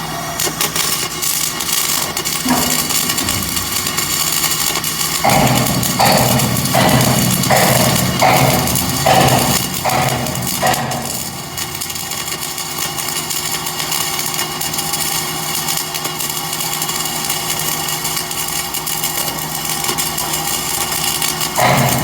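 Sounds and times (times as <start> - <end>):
welding arc crackling: 0.0 - 22.0.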